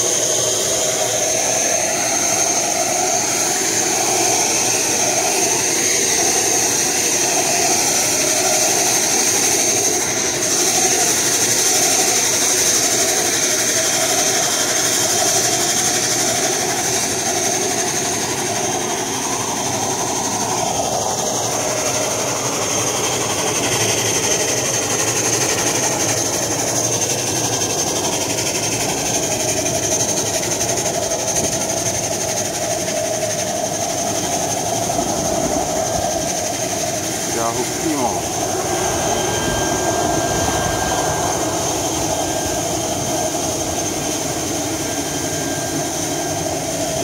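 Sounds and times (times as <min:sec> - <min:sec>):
turboprop engine whining: 0:00.0 - 0:47.0.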